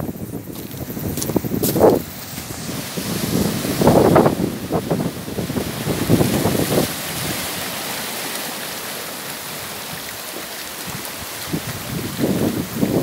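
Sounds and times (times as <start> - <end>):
wind buffeting microphone: 0.0 - 7.9, 9.6 - 13.0
surf washing over rocks: 0.0 - 13.0.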